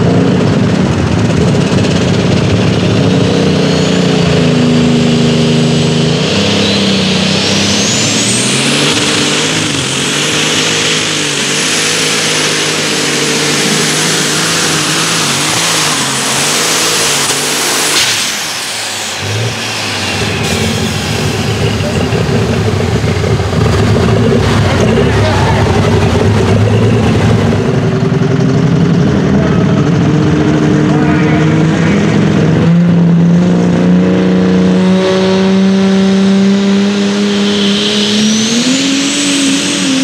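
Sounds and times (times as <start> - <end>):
diesel engine running hard: 0.0 - 40.0
turbo whine: 0.0 - 40.0.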